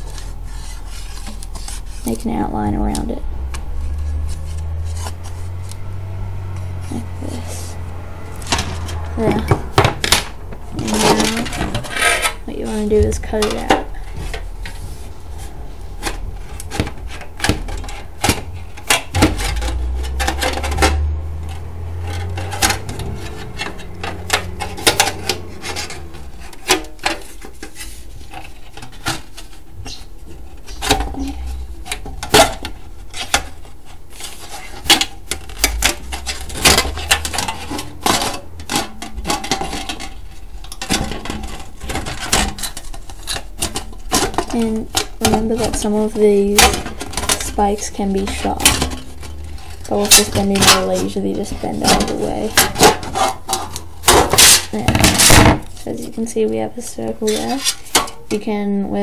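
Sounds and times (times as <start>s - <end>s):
low handling rumble: 0.0s - 28.7s, 29.6s - 54.1s.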